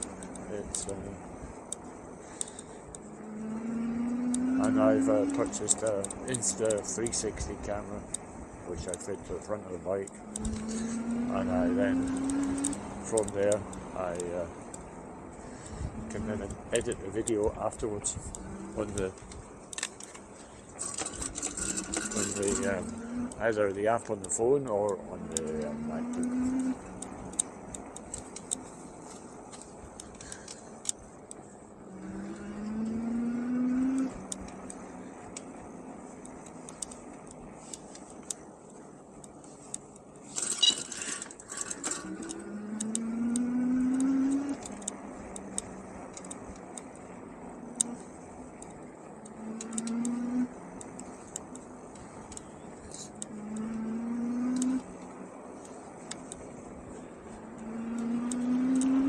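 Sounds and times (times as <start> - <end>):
bike clicks and rattles: 0.0 - 59.0.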